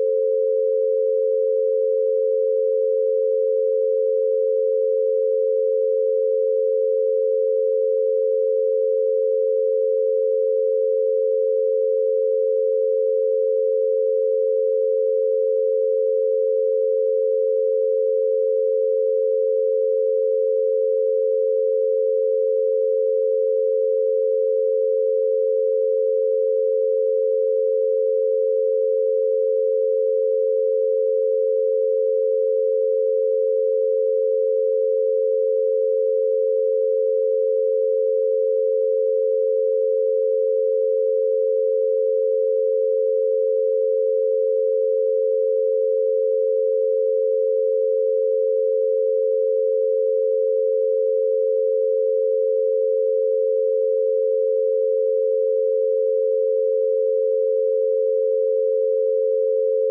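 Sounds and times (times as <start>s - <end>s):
two steady pure tones: 0.0s - 59.9s.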